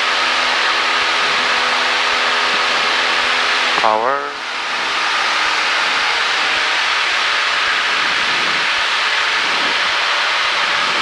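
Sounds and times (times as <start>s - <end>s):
aircraft cabin engine and airflow: 0.0s - 11.0s.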